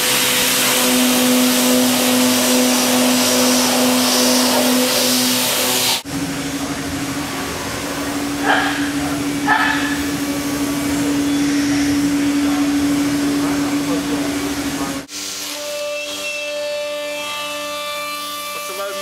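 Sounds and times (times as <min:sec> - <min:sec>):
coolant mist hiss: 0:00.0 - 0:15.4
router spindle whine: 0:00.0 - 0:19.0.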